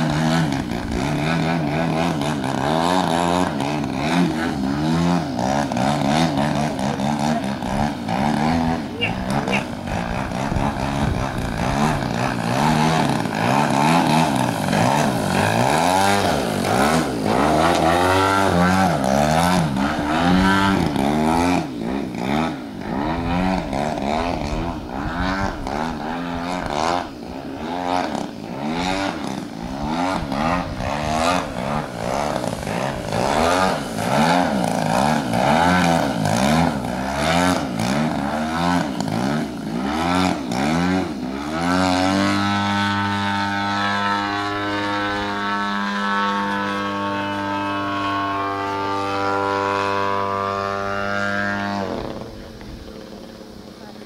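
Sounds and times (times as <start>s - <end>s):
model plane engine and propeller: 0.0s - 54.0s.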